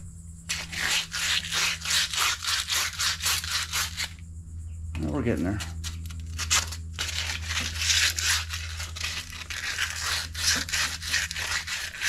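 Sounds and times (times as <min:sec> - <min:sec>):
scrubbing rust off steel: 0:00.5 - 0:04.2, 0:05.3 - 0:12.0.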